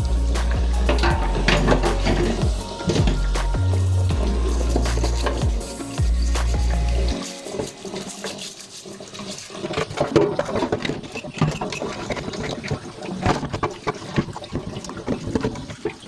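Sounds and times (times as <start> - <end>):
water splashing at sink: 0.1 - 16.0.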